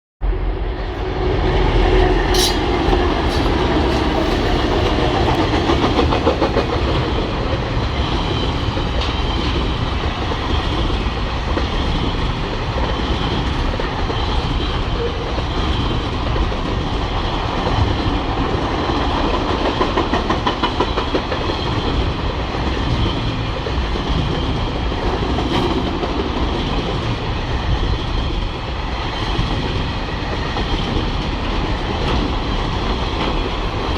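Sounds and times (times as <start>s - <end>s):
freight train rumbling: 0.2s - 33.9s.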